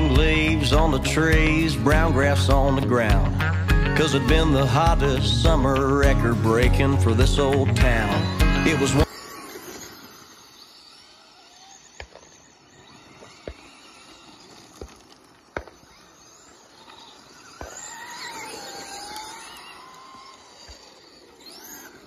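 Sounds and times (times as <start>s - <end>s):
radio-controlled cars motors whining: 0.0s - 22.0s.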